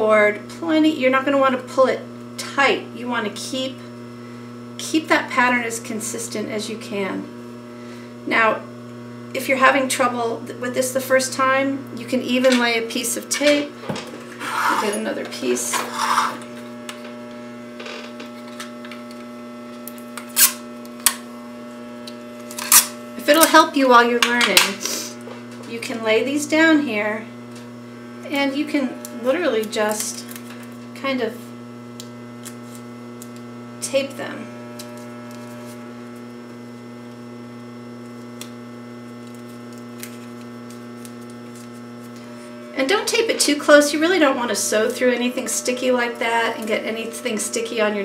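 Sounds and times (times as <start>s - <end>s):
low electric hum: 0.0s - 48.0s.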